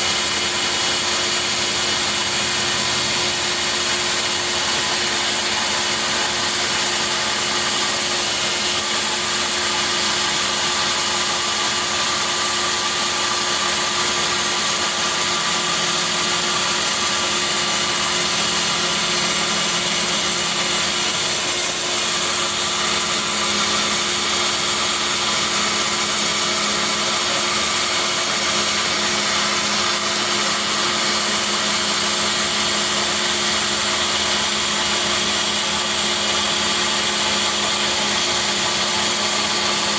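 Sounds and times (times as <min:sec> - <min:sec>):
bandsaw sawing wood: 0:00.0 - 0:39.9.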